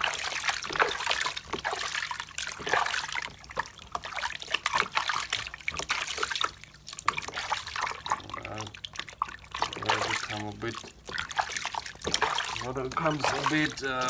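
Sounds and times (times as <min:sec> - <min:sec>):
water splashing in a basin: 0:00.0 - 0:14.0.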